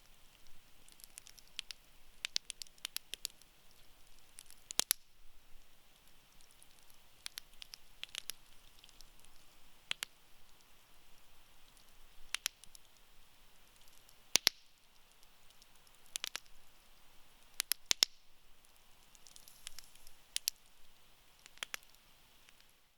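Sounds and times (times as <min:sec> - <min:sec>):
campfire crackling: 0:00.0 - 0:22.9
hiss of burning embers: 0:00.0 - 0:22.9.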